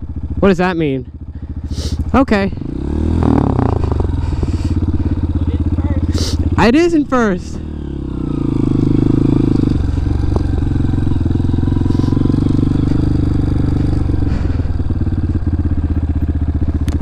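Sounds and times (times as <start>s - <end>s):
dirt bike engine pulling away: 0.0s - 17.0s.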